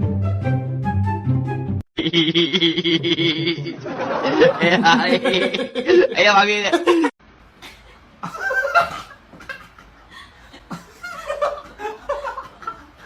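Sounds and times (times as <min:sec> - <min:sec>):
people chuckling: 0:02.0 - 0:13.0.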